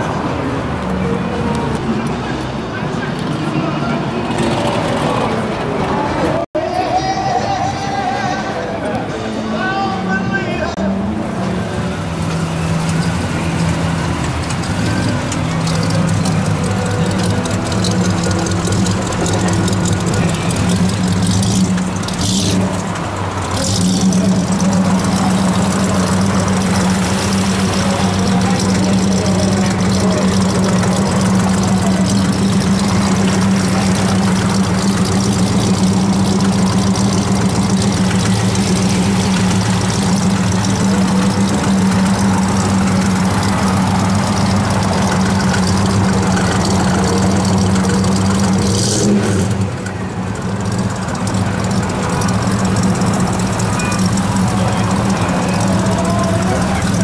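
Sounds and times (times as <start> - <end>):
car engine idling: 10.4 - 57.0.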